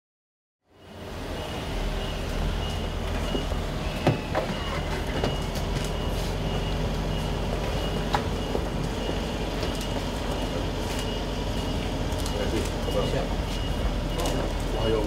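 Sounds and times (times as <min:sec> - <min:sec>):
faint high beeping: 0:00.7 - 0:15.0
car engine idling: 0:00.9 - 0:15.0.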